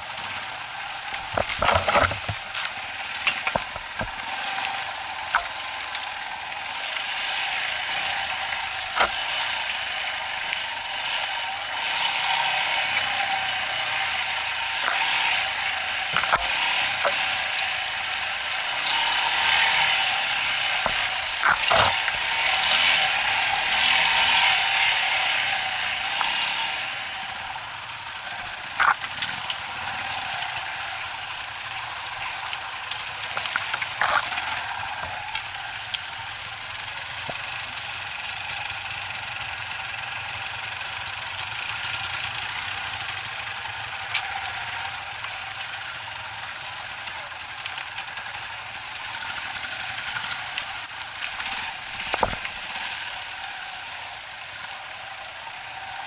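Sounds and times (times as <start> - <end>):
motorcycle engine clatter: 0.0 - 56.0.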